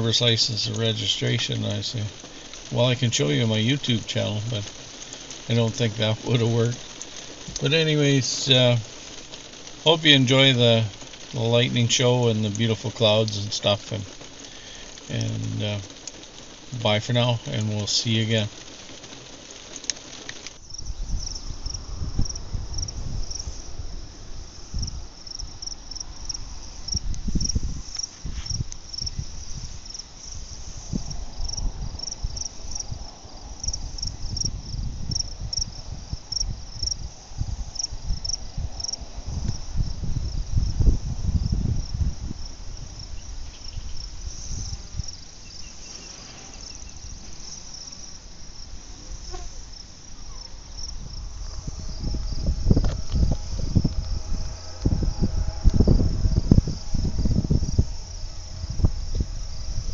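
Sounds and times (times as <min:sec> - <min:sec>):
crickets chirping: 0:00.0 - 0:59.9
low gusting rumble: 0:00.0 - 0:59.9.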